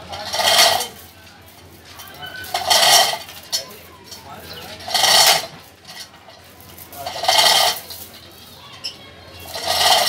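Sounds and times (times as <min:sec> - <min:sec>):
chain and pulley clanking: 0:00.0 - 0:10.0.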